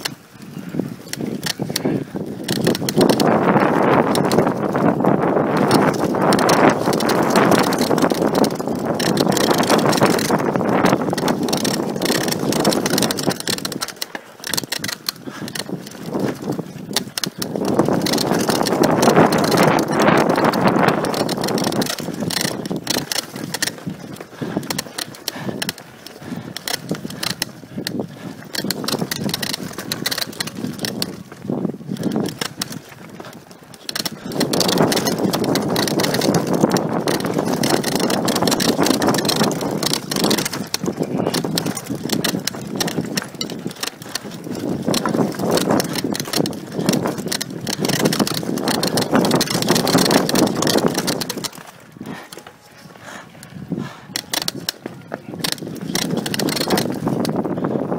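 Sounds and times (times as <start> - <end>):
bike chain rattling: 0.0 - 57.9
bike tyres on dirt: 0.0 - 57.9
wind noise: 0.0 - 57.9.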